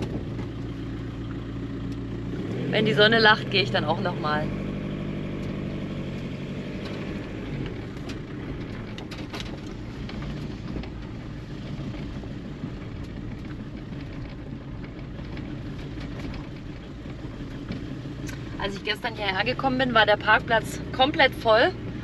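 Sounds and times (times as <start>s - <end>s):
road noise: 0.0s - 22.0s
van engine running: 0.0s - 22.0s.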